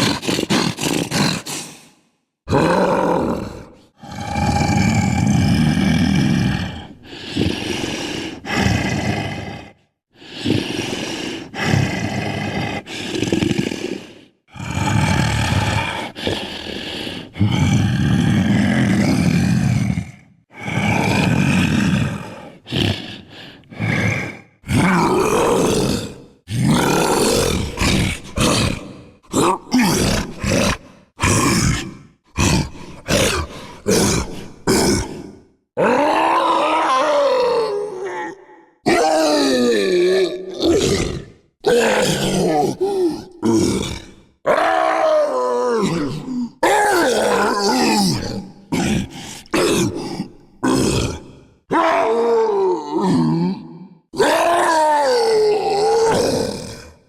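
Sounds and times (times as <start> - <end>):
person imitating roars: 0.0 - 1.9, 2.5 - 57.0.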